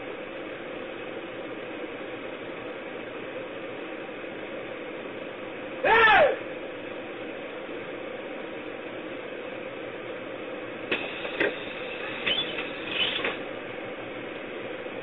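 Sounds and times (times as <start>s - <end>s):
bus interior hum and hiss: 0.0s - 15.0s.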